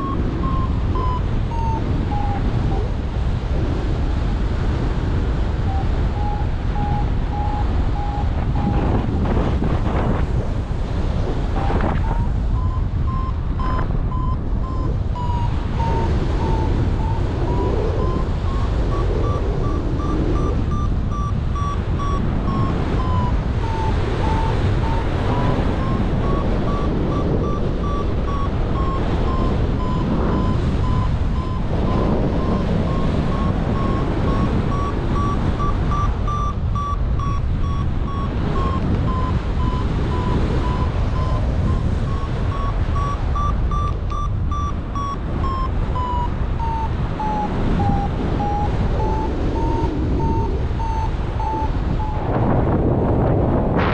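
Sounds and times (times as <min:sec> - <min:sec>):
variometer beeping rapidly: 0:00.0 - 0:03.5, 0:04.7 - 0:10.3, 0:11.1 - 0:52.8
wind noise on microphone: 0:00.0 - 0:53.9.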